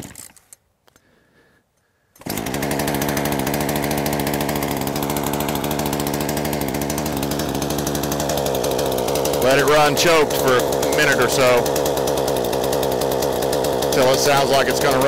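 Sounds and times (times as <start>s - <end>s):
chainsaw engine pull-started: 0.0s - 0.6s, 2.1s - 15.0s
chainsaw fast idle: 2.1s - 15.0s.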